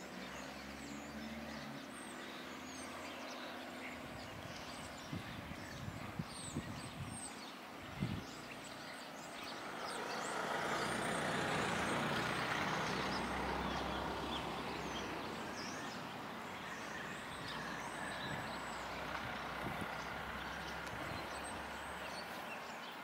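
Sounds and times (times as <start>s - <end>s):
small birds chirping: 0.0s - 23.0s
vehicle passing with low rumble: 0.0s - 23.0s.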